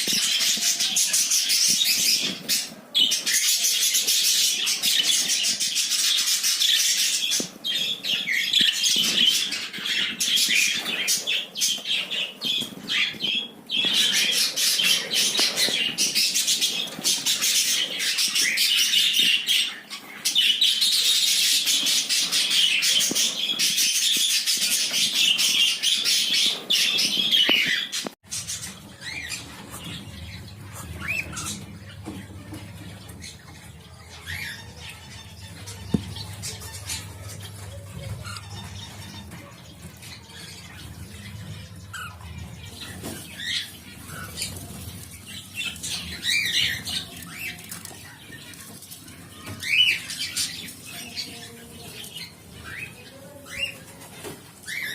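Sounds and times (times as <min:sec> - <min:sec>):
budgerigars chattering and squawking: 0:00.0 - 0:54.9.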